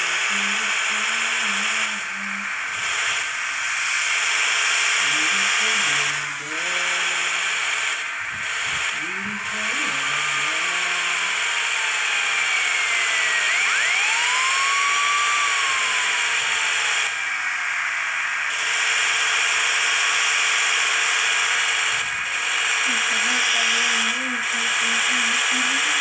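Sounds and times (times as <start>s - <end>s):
bus engine hum: 0.0s - 18.5s, 21.9s - 26.0s.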